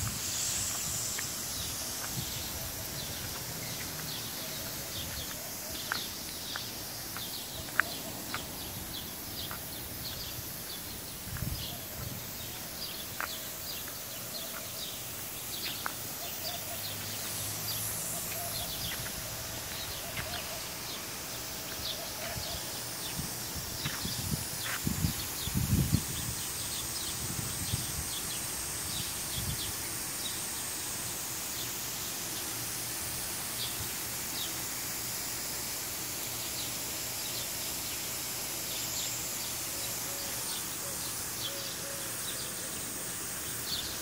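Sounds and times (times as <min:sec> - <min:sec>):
sprinklers hissing: 0:00.0 - 0:44.0.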